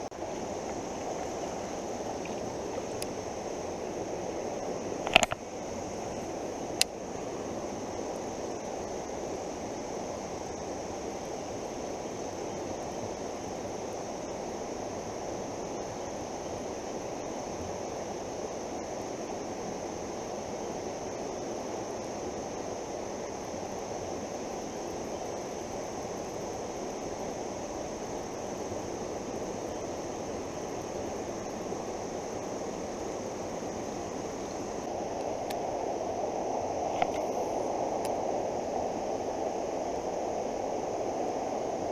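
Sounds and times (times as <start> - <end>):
creek water rushing: 0.0 - 41.9.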